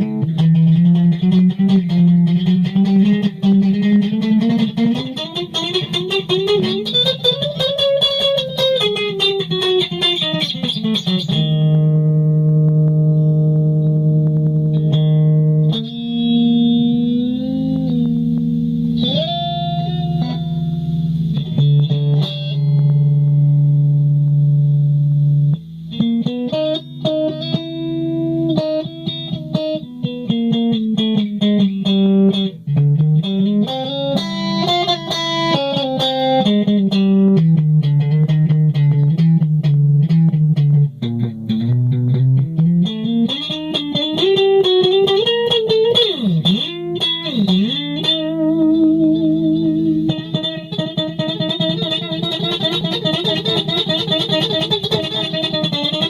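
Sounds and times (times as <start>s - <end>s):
electric guitar improvising: 0.0s - 56.0s.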